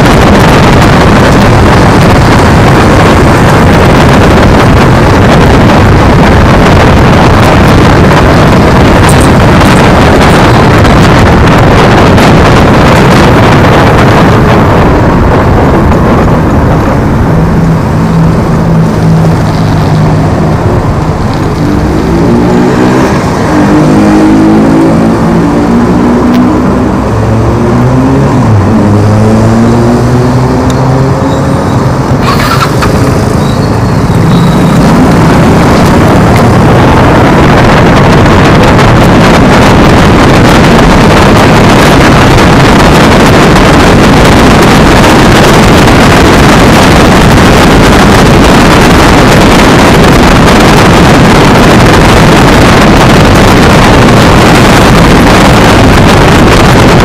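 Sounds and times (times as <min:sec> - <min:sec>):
motorcycle engines revving: 0:00.0 - 0:57.0
wind buffeting microphone: 0:00.0 - 0:57.0.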